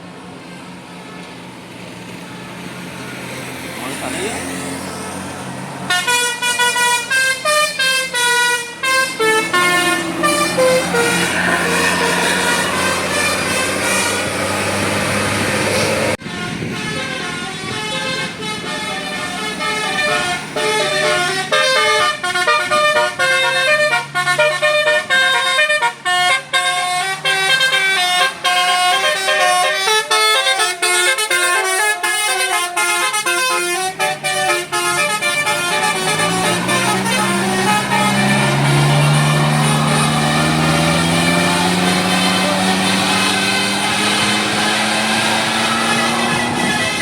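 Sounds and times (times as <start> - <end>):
bus engine running: 0.0 - 47.0
traffic noise: 0.0 - 47.0
bus musical air horn tune: 5.9 - 47.0.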